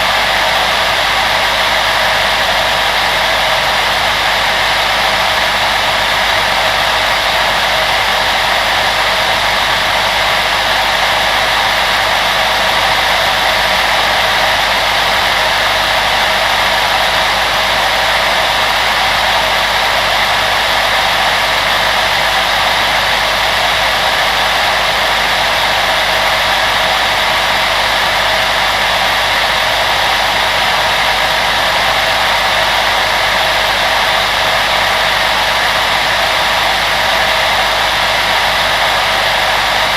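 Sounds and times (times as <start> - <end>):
appliance fan blowing air: 0.0 - 39.9.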